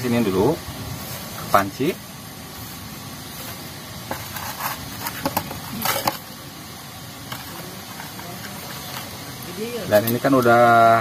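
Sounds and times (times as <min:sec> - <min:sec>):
leaves rustling and crumpling: 0:00.0 - 0:11.0.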